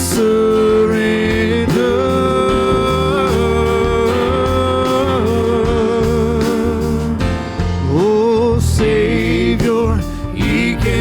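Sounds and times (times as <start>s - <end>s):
band with bass and light beat: 0.0s - 11.0s
singers holding a note in harmony: 0.0s - 11.0s.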